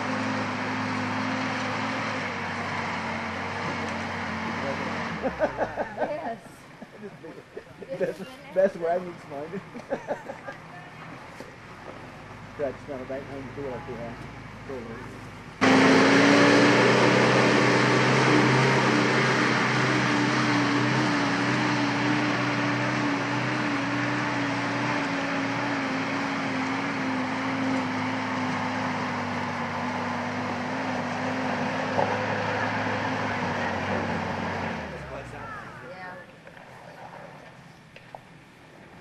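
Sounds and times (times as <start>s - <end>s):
engine running under load: 0.0s - 39.0s.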